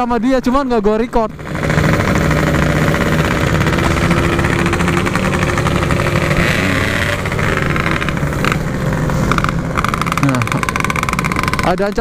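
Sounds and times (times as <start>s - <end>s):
two-stroke motorcycle engine: 0.0s - 12.0s.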